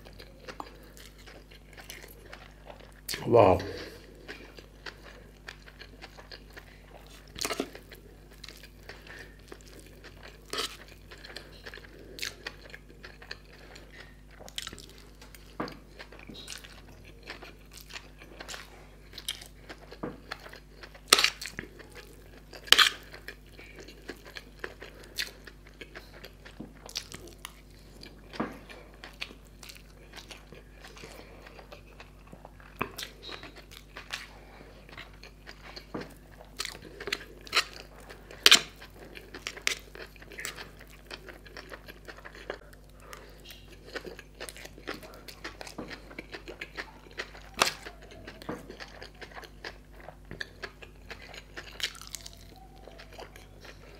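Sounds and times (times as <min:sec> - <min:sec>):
chewing and crunching noodles: 0:00.0 - 0:53.9.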